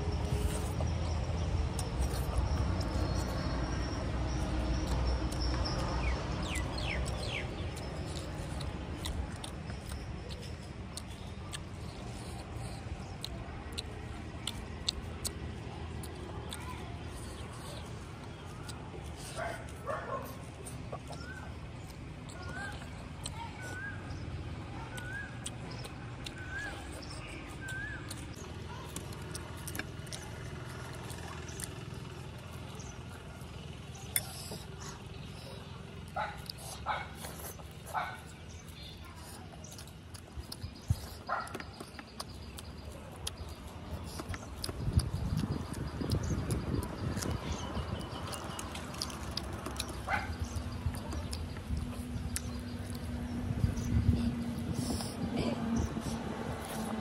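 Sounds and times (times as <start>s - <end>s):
bird chirping: 0.0s - 57.0s
close chewing and mouth clicks: 0.0s - 57.0s
steady low rumble: 0.0s - 57.0s.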